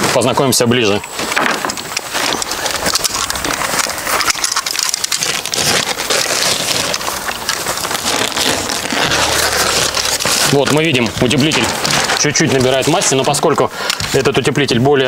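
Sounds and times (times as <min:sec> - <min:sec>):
plastic film crinkling: 0:00.0 - 0:14.6.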